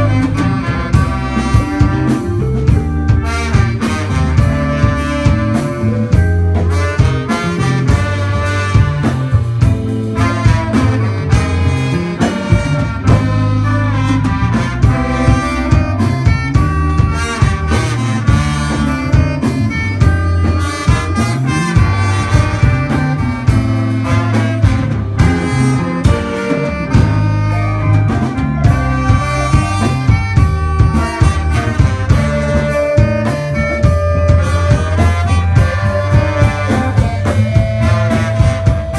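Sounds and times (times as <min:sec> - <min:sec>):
drum kit beat: 0:00.0 - 0:38.9
electric bass: 0:00.0 - 0:38.9
electric guitar: 0:00.0 - 0:38.9
horn section melody: 0:00.0 - 0:38.9.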